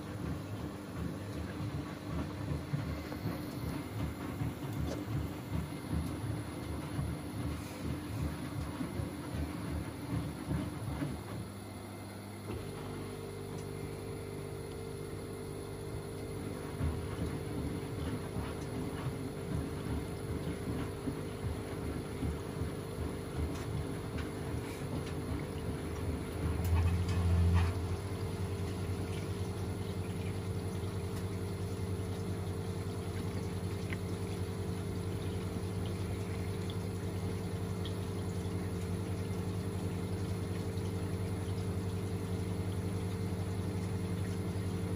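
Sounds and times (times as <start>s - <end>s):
washing machine motor hum: 0.0s - 44.9s.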